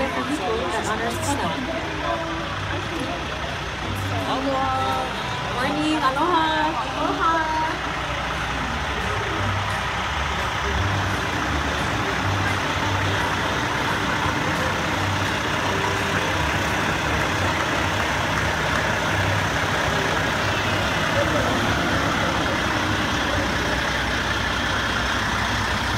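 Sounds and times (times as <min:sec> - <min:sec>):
large vehicle engine idling: 0:00.0 - 0:25.9
outdoor noise: 0:00.0 - 0:25.9.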